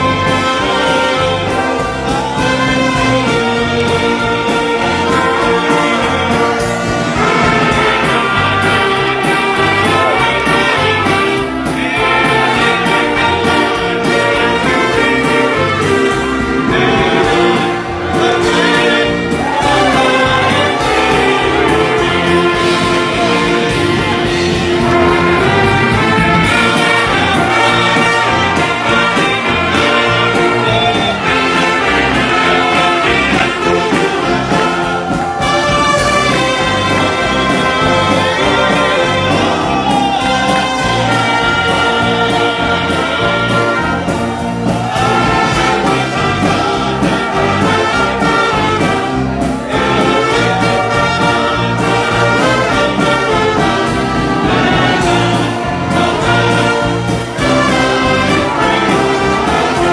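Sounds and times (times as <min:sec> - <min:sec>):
brass band playing a hymn: 0:00.0 - 0:59.9
voices singing along: 0:00.0 - 0:59.9.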